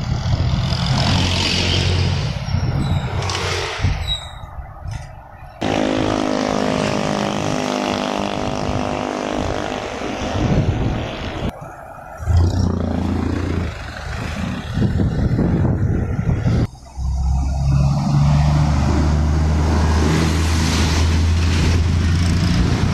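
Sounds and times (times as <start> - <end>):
vehicle engine and road noise: 0.0 - 22.9.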